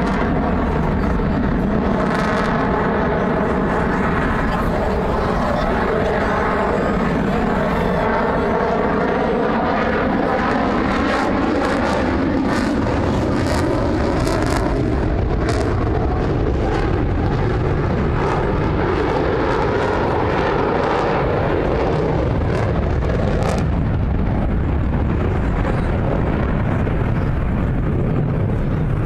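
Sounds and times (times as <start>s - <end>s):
airplane engine roar: 0.0s - 29.0s.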